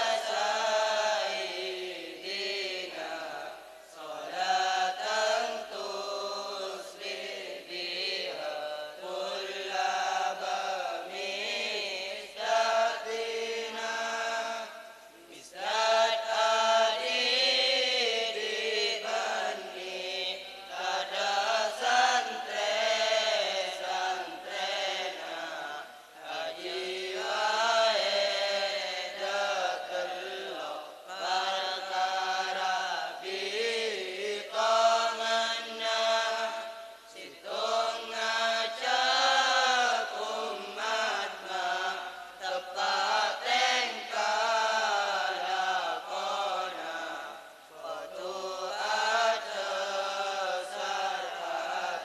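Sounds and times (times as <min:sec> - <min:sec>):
boys chanting into microphones: 0:00.0 - 0:52.0.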